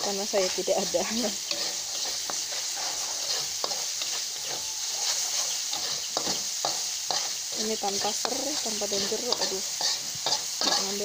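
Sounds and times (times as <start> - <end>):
metal spoon scraping pan: 0.0 - 11.0
paste sizzling in hot oil: 0.0 - 11.0.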